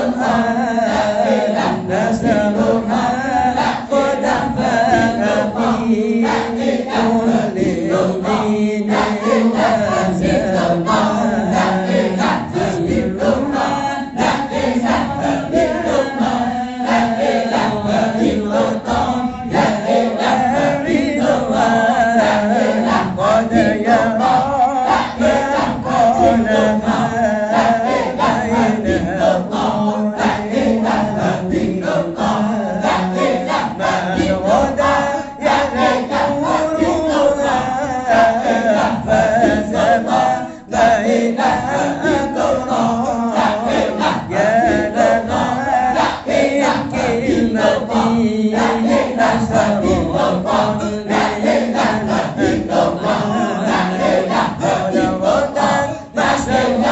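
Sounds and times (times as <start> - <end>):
voices chanting in unison: 0.0 - 56.9.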